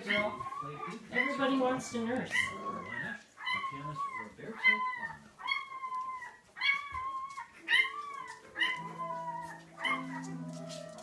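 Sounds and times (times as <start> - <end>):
puppies whining and yelping: 0.0 - 11.0.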